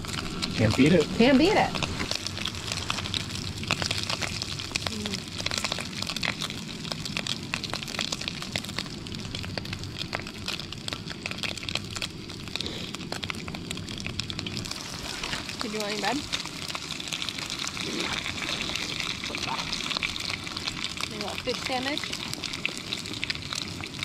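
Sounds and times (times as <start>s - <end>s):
fish frying in oil: 0.0s - 24.0s
oil crackling and popping: 0.0s - 24.0s.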